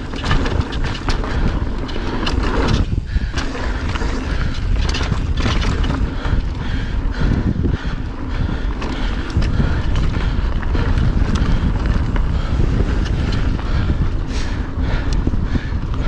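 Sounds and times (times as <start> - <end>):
bike clicks and rattles: 0.0 - 16.0
tyres rumbling on dirt: 0.0 - 16.0
wind on microphone: 0.0 - 16.0.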